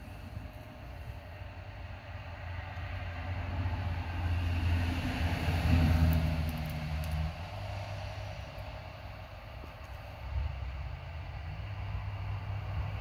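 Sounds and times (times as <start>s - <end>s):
vehicle driving past: 2.1s - 13.0s.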